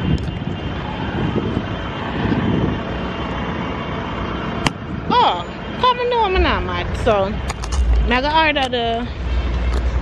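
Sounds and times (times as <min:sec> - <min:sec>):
car driving road and engine noise: 0:00.0 - 0:10.0.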